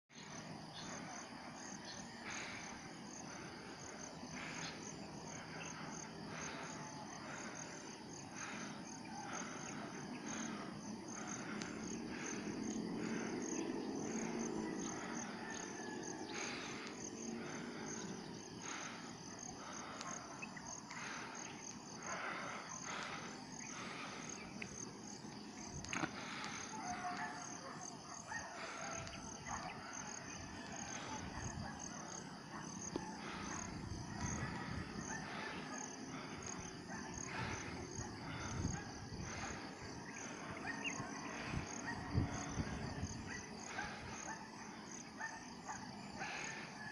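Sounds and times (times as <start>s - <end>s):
insects high-pitched pulsing trill: 0.1s - 46.9s
lower rasping insect call: 0.1s - 46.9s.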